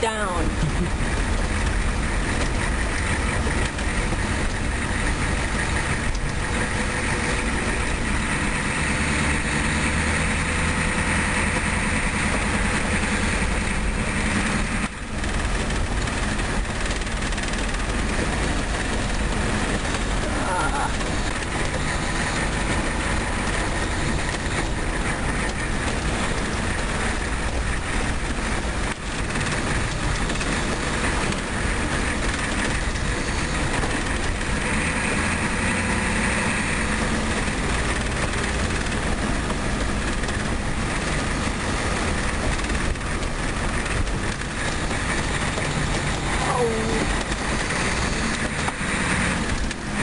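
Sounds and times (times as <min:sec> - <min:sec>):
car road noise from inside cabin: 0:00.0 - 0:50.0
tyre and engine rumble: 0:00.0 - 0:50.0.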